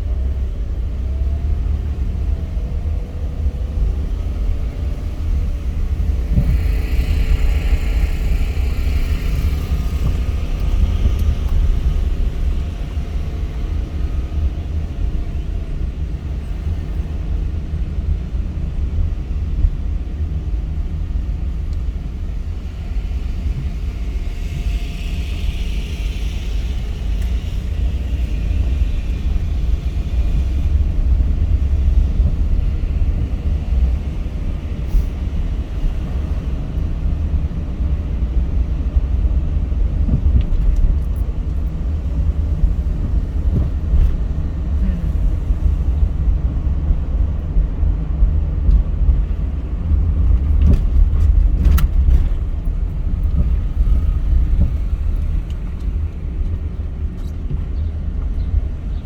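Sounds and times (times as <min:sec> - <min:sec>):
car engine rumble and road noise: 0:00.0 - 0:59.0.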